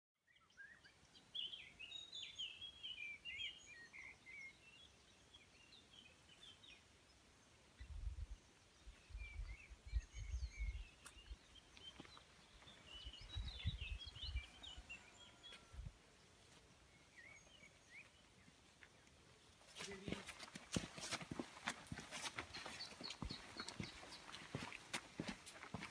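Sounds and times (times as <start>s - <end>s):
songbirds chirping: 0.2s - 25.9s.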